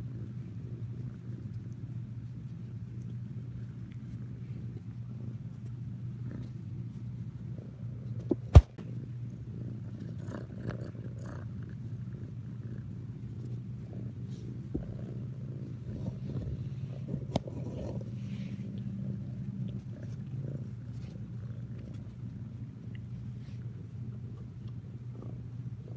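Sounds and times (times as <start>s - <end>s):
kitten purring: 0.0s - 25.9s.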